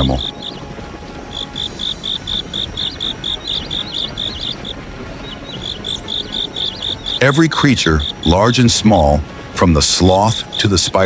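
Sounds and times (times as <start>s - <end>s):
cricket chirping: 0.0s - 8.7s, 10.0s - 11.0s.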